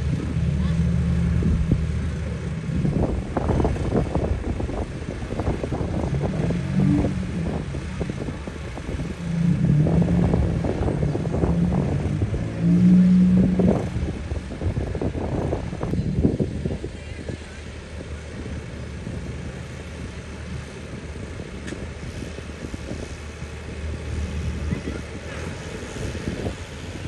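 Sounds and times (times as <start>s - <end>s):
tractor engines passing: 0.0s - 27.0s
wind buffeting microphone: 0.0s - 27.0s.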